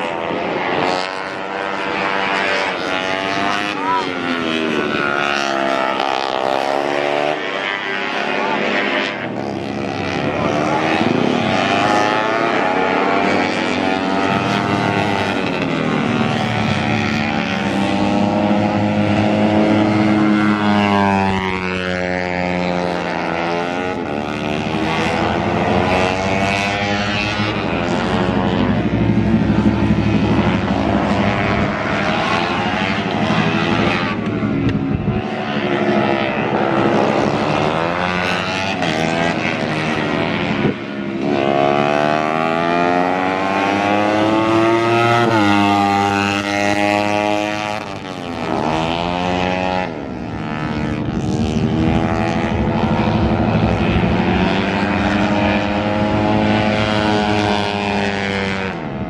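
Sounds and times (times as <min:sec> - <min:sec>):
racing motorcycle engine revving: 0:00.0 - 0:59.0.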